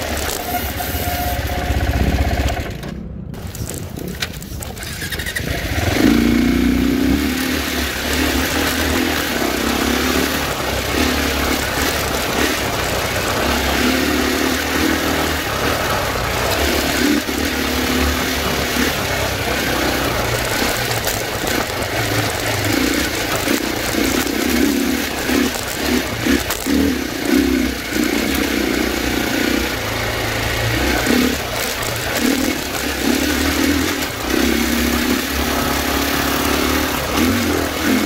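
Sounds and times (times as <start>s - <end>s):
dirt bike engine revving: 4.8s - 38.0s.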